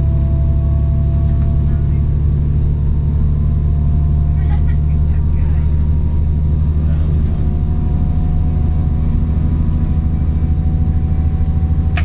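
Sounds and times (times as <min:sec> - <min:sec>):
faint steady whine: 0:00.0 - 0:12.0
railcar engine drone: 0:00.0 - 0:12.0.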